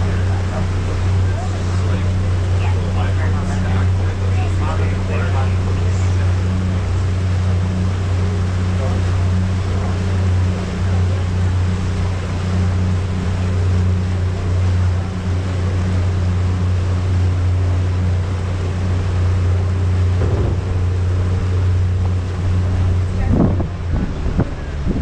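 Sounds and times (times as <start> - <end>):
ferry engine drone: 0.0 - 25.0
rushing water: 0.0 - 25.0.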